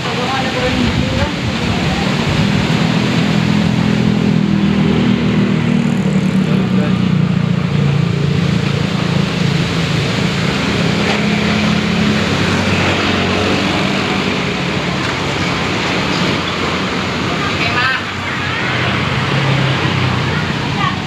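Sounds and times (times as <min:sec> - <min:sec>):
low steady drone: 0:00.0 - 0:21.0
strong wind blowing: 0:00.3 - 0:21.0.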